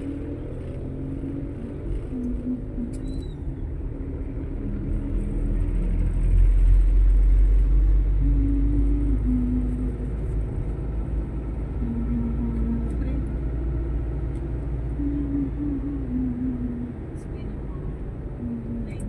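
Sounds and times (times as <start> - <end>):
low hums: 0.0 - 19.0
vehicle engine rumble: 0.0 - 19.0.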